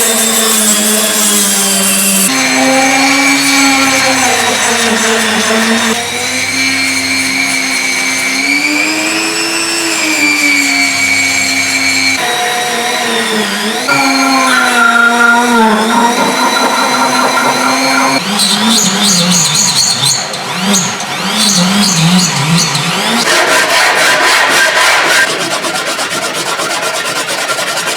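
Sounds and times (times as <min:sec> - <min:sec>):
power tool motor whining: 0:00.0 - 0:23.2.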